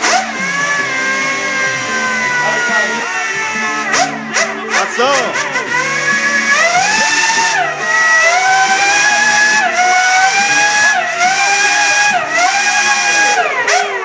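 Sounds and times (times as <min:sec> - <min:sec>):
high-pitched racing engine shifting gears: 0:00.0 - 0:14.0.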